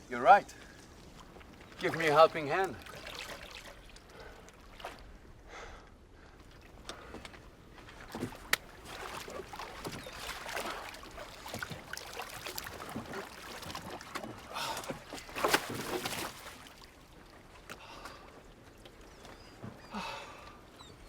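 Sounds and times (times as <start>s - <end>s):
water splashing and lapping: 0.6s - 21.0s.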